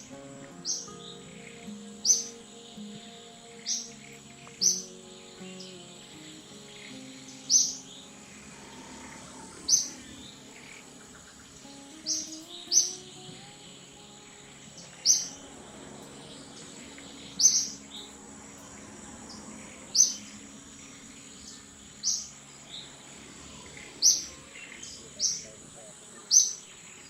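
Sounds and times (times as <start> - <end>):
bird chirping: 0.0 - 27.0
faint high whine: 0.0 - 27.0.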